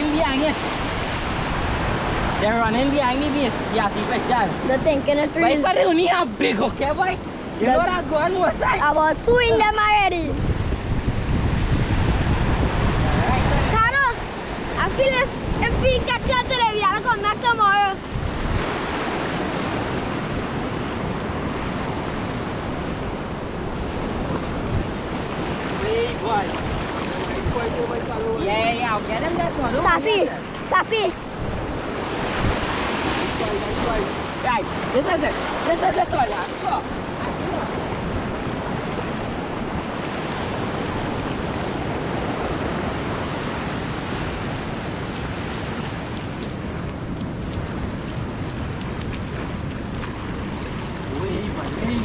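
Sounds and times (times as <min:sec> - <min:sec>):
surf washing up a sandy beach: 0:00.0 - 0:52.0
wind buffeting microphone: 0:00.0 - 0:52.0.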